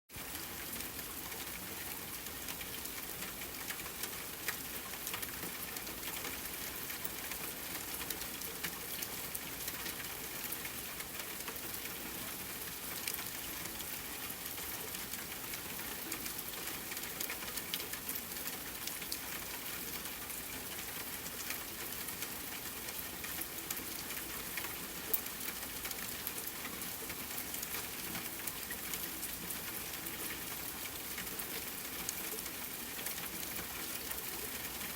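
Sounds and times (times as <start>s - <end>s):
rain falling on foliage: 0.1s - 34.9s.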